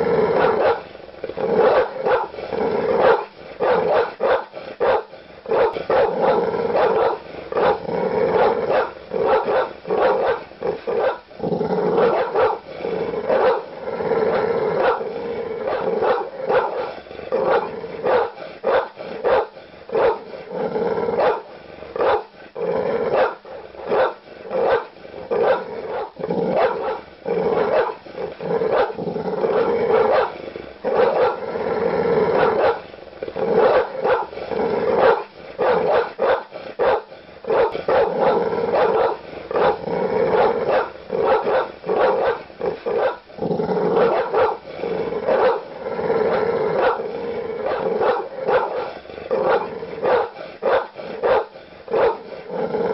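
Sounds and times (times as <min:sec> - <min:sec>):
large dogs barking: 0:00.0 - 0:31.5, 0:32.3 - 0:52.9
dogs growling: 0:00.0 - 0:52.9.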